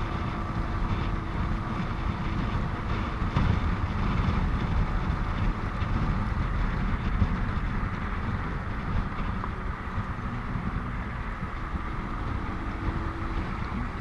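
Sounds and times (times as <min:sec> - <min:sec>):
motorcycle riding: 0:00.0 - 0:14.0
wind noise on microphone: 0:00.0 - 0:14.0.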